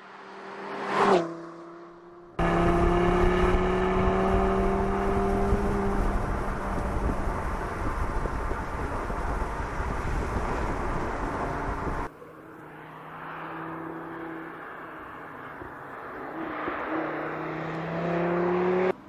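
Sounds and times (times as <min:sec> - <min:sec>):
car engine rumble: 0:00.0 - 0:19.0
wind and road noise: 0:00.0 - 0:19.0.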